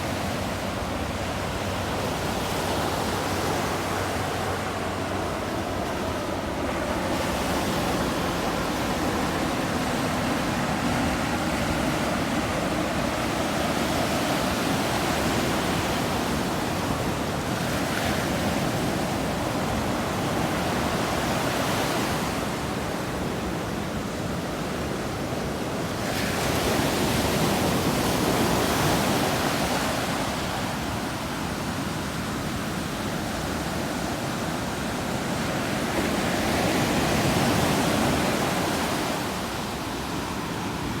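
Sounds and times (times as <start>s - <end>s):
waves breaking on beach: 0.0s - 41.0s.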